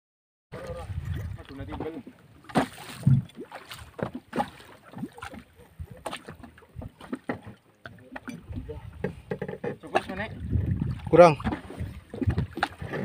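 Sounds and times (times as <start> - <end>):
knocks and bumps against boat: 0.6 - 13.0.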